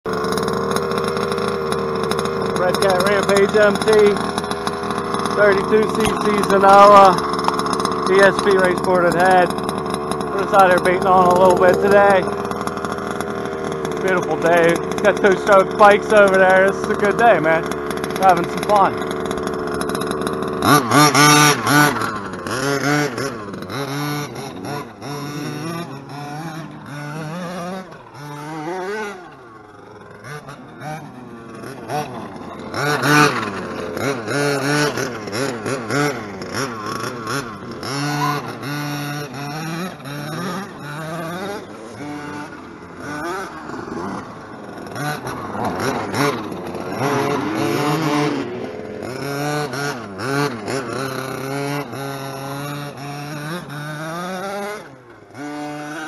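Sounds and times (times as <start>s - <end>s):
small engine revving: 0.0s - 56.0s.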